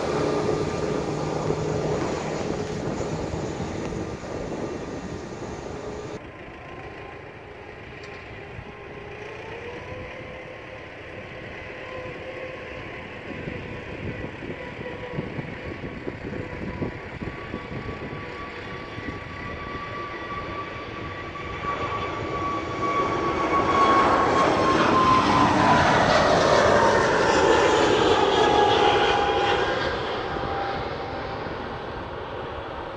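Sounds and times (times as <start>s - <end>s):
jet engine whine: 0.0s - 32.9s
jet plane taking off: 0.0s - 32.9s.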